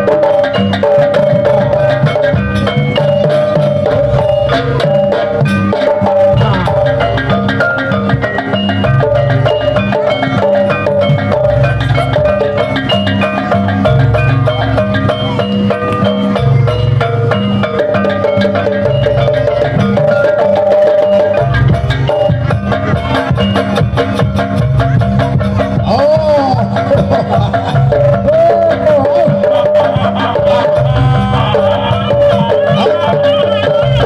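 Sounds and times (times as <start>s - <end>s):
struck metallophone runs: 0.0s - 34.0s.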